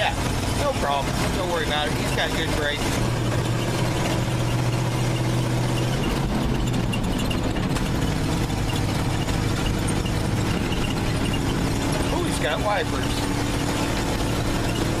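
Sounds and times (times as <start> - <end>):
truck engine running at low revs: 0.0 - 15.0.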